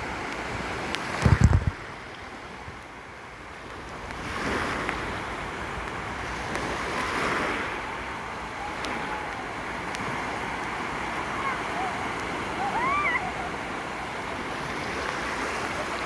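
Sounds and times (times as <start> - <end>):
waves washing onto beach: 0.0 - 16.0.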